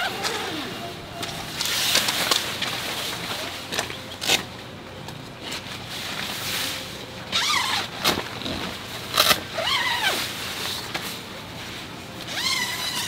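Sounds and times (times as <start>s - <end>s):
tent fabric rustling and flapping: 0.0s - 4.5s, 5.4s - 13.0s.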